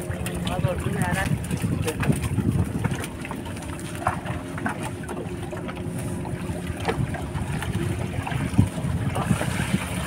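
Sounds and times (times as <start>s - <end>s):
boat engine running: 0.0s - 10.0s
wind buffeting microphone: 0.0s - 10.0s.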